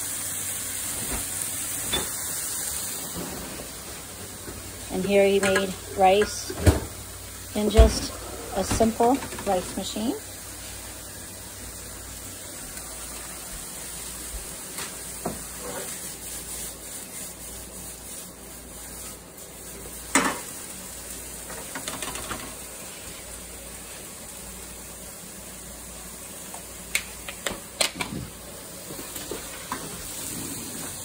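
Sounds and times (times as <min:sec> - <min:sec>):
meat sizzling in a frying pan: 0:00.0 - 0:31.0.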